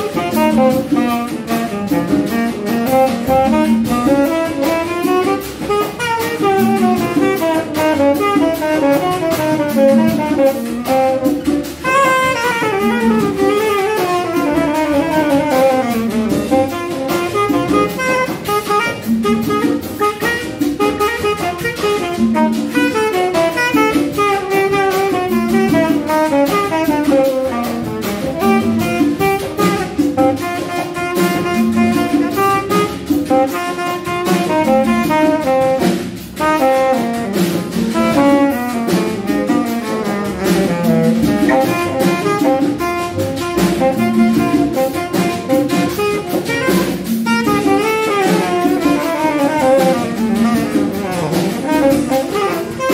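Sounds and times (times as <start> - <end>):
drums: 0.0 - 52.9
latin funk accompaniment: 0.0 - 52.9
tenor saxophone jazz solo: 0.0 - 52.9.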